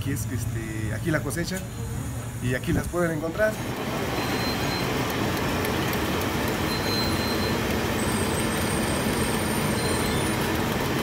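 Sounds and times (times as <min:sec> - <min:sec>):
tortilla machine running: 0:00.0 - 0:11.0.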